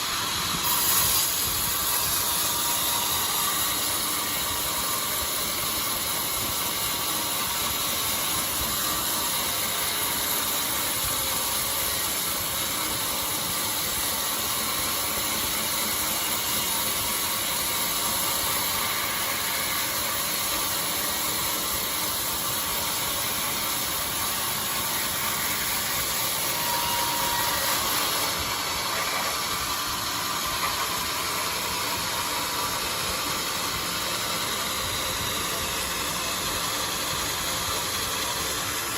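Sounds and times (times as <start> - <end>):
band sawmill whirring: 0.0 - 38.9.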